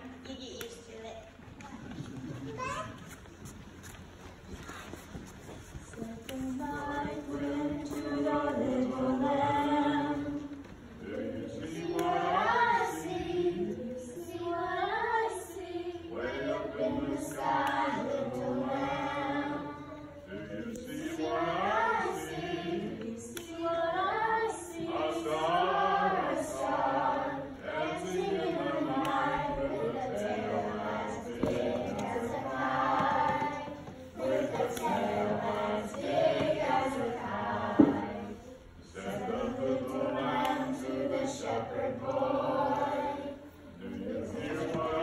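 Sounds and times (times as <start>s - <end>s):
children's choir singing: 5.8s - 45.0s.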